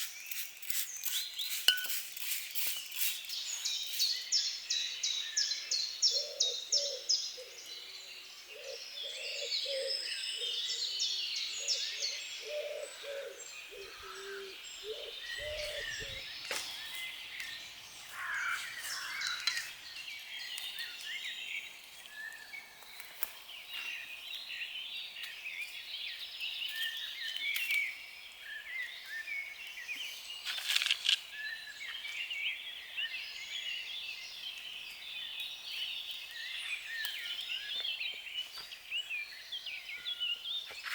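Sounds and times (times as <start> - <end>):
songbirds chirping and singing: 2.7 - 40.9.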